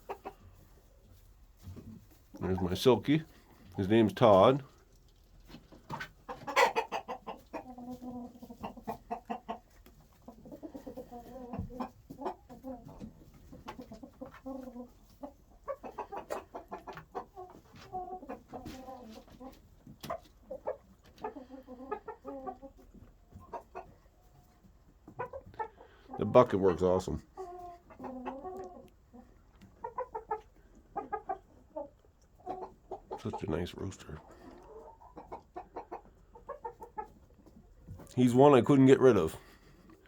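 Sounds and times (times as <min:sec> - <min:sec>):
roosters clucking: 0:00.0 - 0:40.0.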